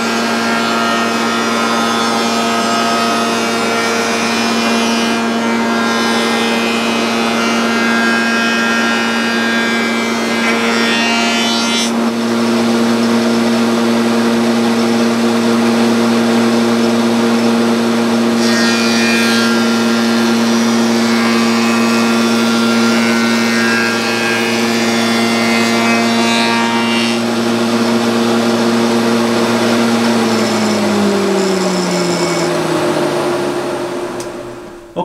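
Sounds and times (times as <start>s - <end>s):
wood shaper humming: 0.0s - 35.0s.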